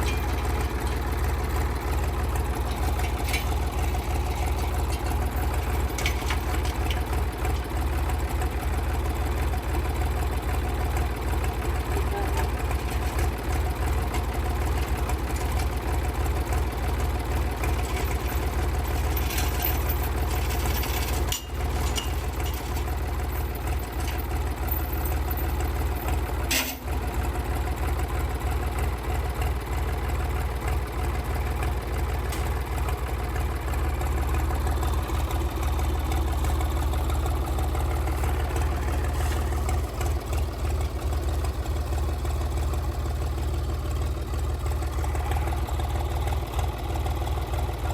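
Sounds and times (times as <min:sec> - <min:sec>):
gasoline engine running: 0:00.0 - 0:47.9.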